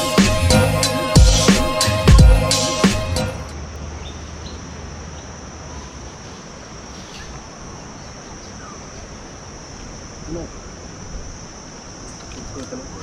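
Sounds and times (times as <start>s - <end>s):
insects buzzing high-pitched: 0.0s - 13.0s.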